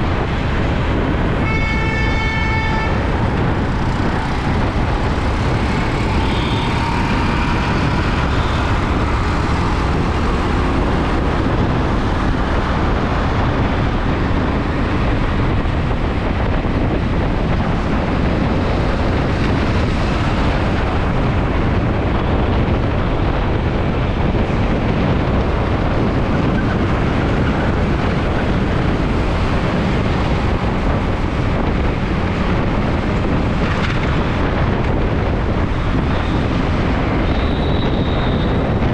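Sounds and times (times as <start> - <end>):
road rumble: 0.0 - 38.9
wind on microphone: 0.0 - 38.9.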